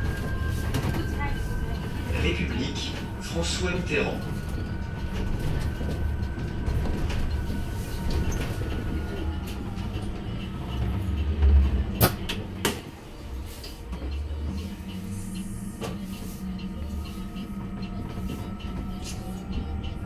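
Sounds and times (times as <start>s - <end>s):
bus road rumble: 0.0s - 20.0s.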